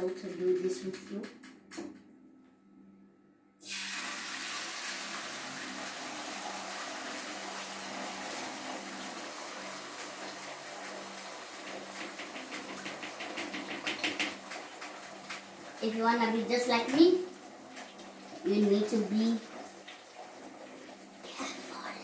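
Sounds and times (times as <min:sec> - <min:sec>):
egg sizzling in frying pan: 0:03.6 - 0:21.7.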